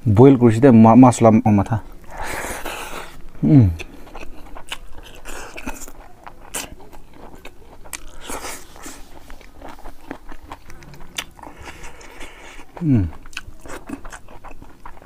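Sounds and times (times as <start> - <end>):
chewing and lip smacking: 1.9 - 15.0.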